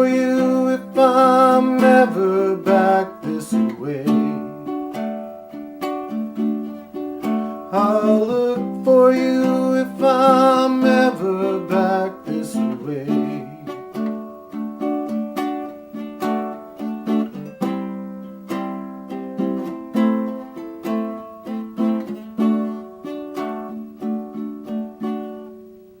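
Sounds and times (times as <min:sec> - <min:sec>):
ukulele plucked chords: 0:00.0 - 0:26.0.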